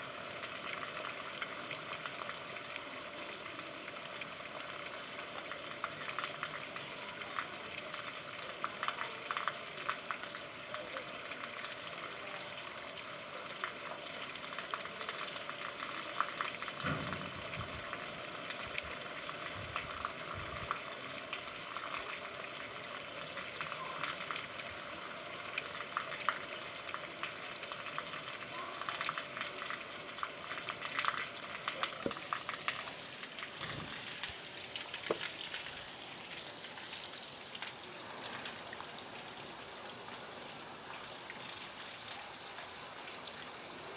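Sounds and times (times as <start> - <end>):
steady rain patter: 0.0 - 43.9.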